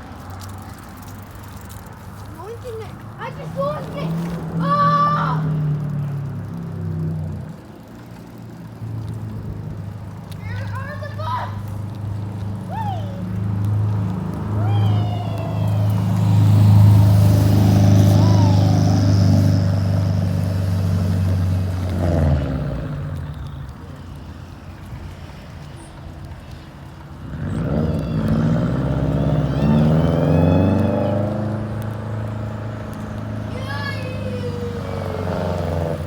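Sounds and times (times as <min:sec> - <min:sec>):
vehicles passing by: 0:00.0 - 0:36.0.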